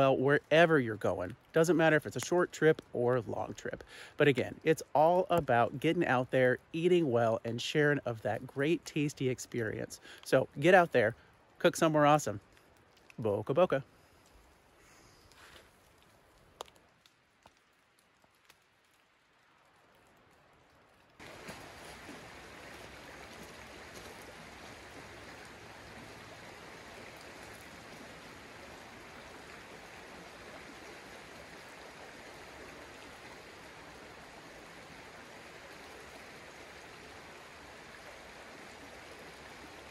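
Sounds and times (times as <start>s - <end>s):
running water: 0.0s - 13.9s, 21.0s - 39.9s.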